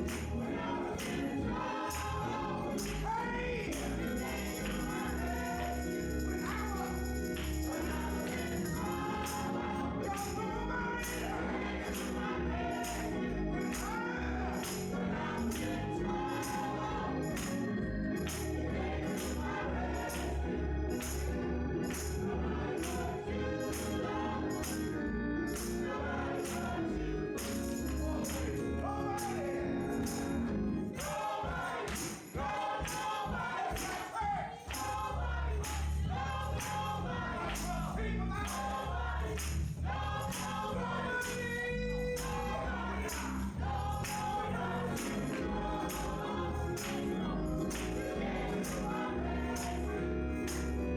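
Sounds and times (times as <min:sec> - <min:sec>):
choir singing: 0:00.0 - 0:50.9
gospel band playing: 0:00.0 - 0:50.9
tambourine beat: 0:00.0 - 0:50.9.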